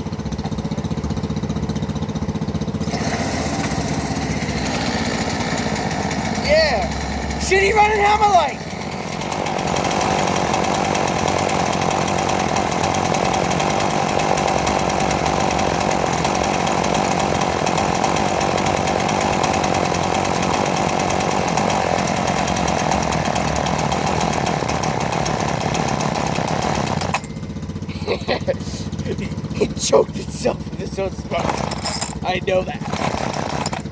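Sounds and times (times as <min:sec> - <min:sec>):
chainsaw engine running: 0:00.0 - 0:33.9.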